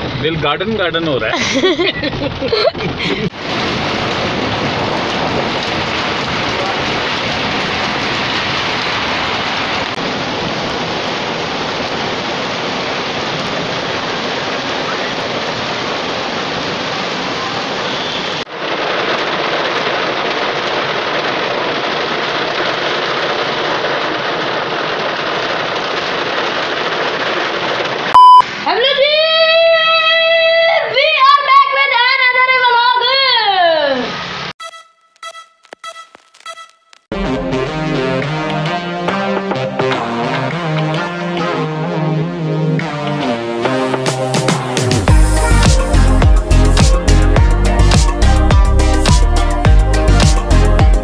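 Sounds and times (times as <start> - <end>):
heavy rain pouring: 0.0 - 28.7, 37.1 - 51.0.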